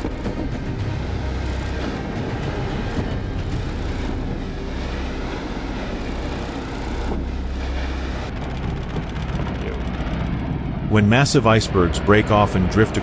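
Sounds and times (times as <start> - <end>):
deep rumble with noisy rush: 0.0 - 13.0.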